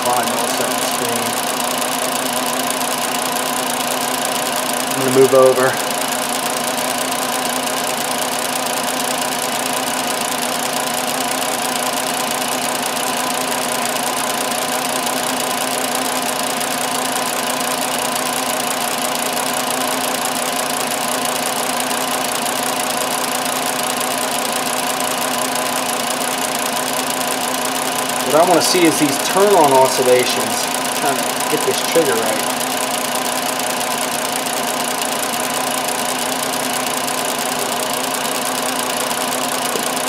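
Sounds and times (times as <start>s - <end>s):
car engine idling with misfire: 0.0s - 40.0s.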